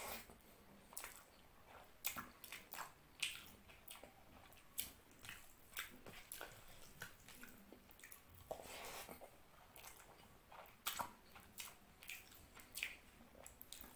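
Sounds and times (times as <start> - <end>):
wet chewing: 0.0 - 13.9
lip smacks and mouth clicks: 0.9 - 13.9.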